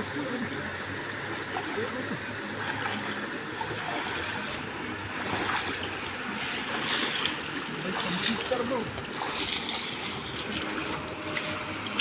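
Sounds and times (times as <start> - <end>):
water sloshing around wading legs: 0.0 - 12.0.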